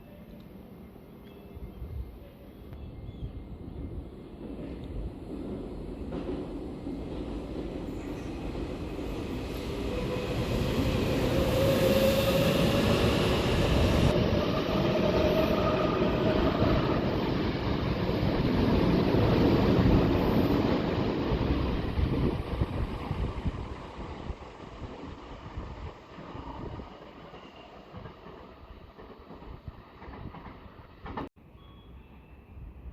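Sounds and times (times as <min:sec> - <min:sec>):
electric train passing: 0:03.5 - 0:32.9.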